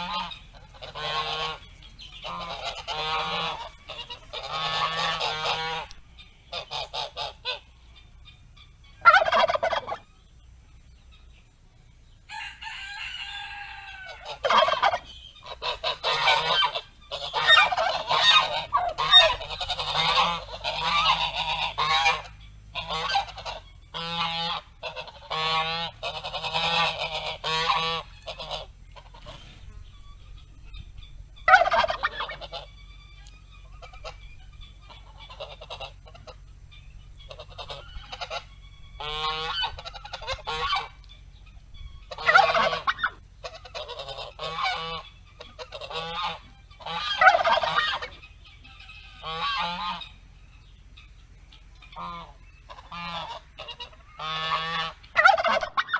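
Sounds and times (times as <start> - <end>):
geese honking: 0.0 - 55.9.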